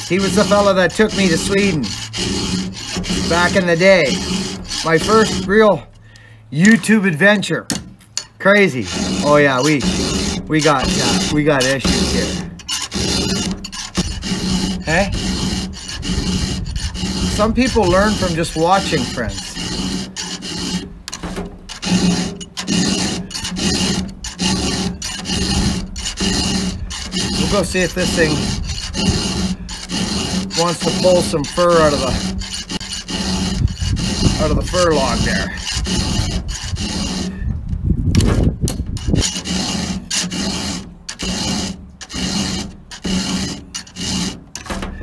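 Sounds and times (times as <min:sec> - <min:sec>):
file rasping on chainsaw chain: 0:00.0 - 0:05.9, 0:08.2 - 0:37.6, 0:38.2 - 0:44.7.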